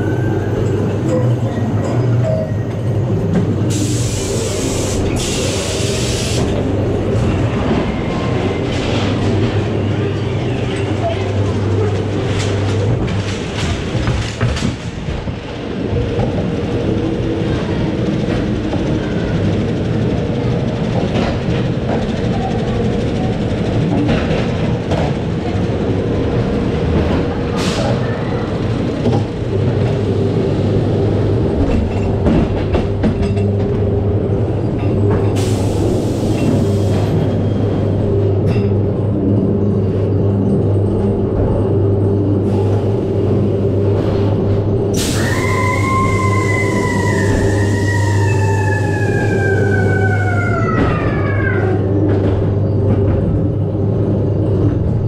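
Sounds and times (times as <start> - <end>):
ride car wheels rumbling on rail: 0.0 - 55.0.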